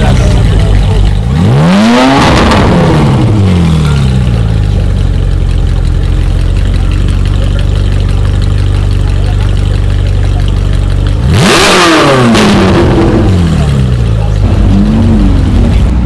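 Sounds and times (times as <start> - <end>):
car engine revving then idling: 0.0 - 16.0.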